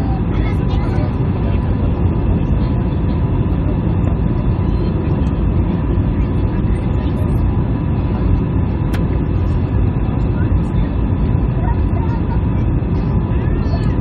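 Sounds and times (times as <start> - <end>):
airplane cabin engine drone: 0.0 - 14.0
faint constant hum: 0.0 - 14.0.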